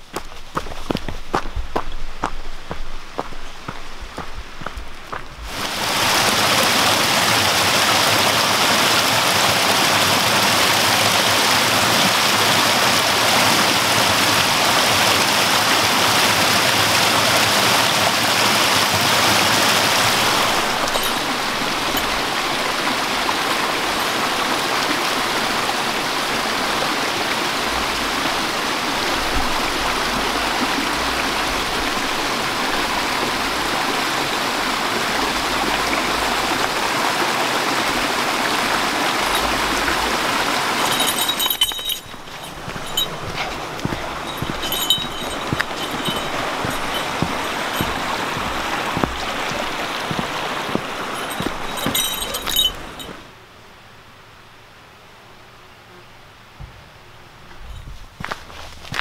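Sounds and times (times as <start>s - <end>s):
waterfall pouring over rocks: 0.0s - 53.3s
stream flowing over stones: 0.0s - 53.4s, 57.6s - 59.0s.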